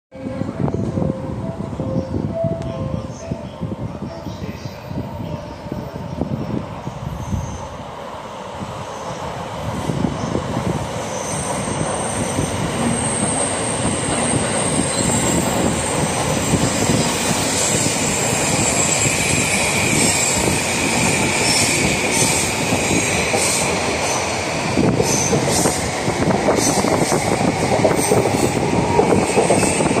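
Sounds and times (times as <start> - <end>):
train wheels rumbling on rail: 0.2 - 30.0.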